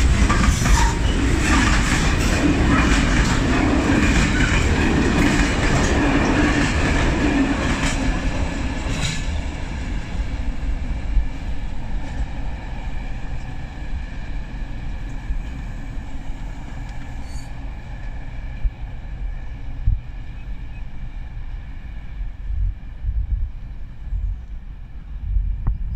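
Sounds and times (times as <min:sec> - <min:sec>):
steady low rumble: 0:00.0 - 0:17.0, 0:17.7 - 0:25.9
freight train wheels on rails: 0:00.0 - 0:25.9.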